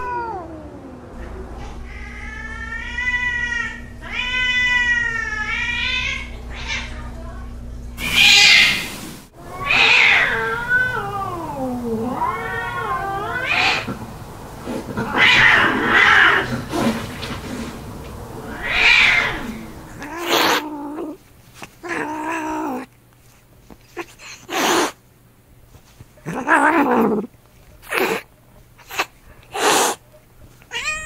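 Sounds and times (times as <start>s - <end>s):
cats yowling in a fight: 0.0s - 7.0s, 8.0s - 22.9s, 23.9s - 25.0s, 26.2s - 30.0s, 30.7s - 31.0s.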